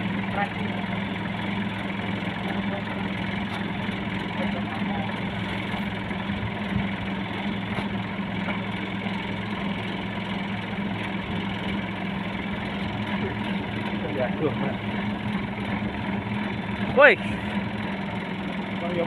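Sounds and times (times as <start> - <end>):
combine harvester engine humming: 0.0 - 19.0.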